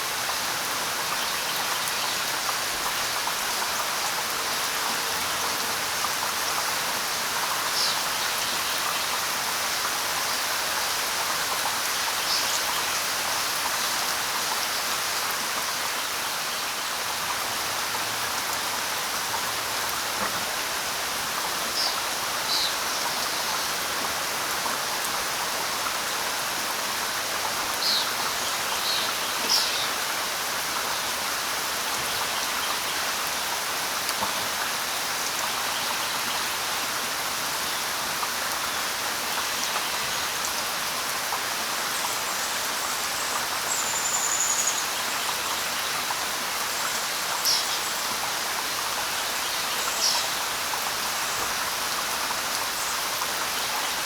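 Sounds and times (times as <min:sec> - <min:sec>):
light rain on leaves: 0:00.0 - 0:54.0.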